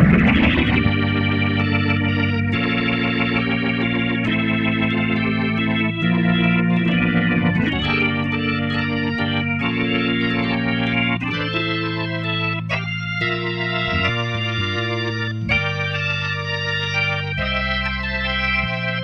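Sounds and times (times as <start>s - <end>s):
organ playing chords and melody: 0.0s - 19.0s.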